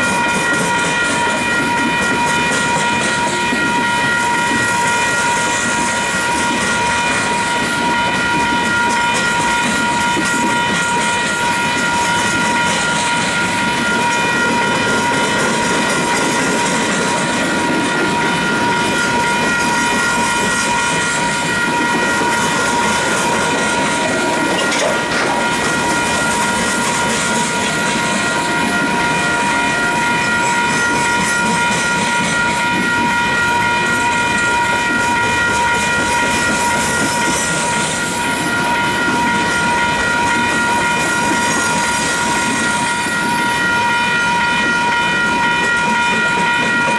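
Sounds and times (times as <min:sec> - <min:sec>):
train wheels clattering over rail joints: 0:00.0 - 0:43.3.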